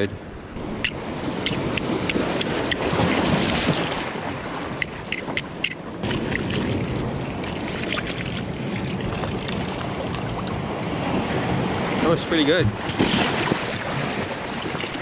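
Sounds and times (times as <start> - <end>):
seawater surging through rocks: 0.0 - 15.0
wind buffeting microphone: 0.0 - 15.0.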